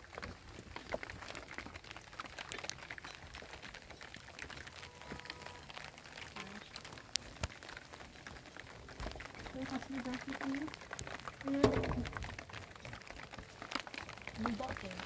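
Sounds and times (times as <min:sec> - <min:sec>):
rain drops pattering: 0:00.0 - 0:15.0.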